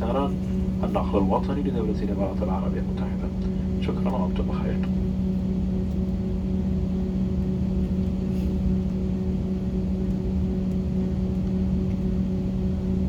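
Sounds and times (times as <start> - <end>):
airplane cabin rumble: 0.0 - 13.0
constant low hum: 0.0 - 13.0.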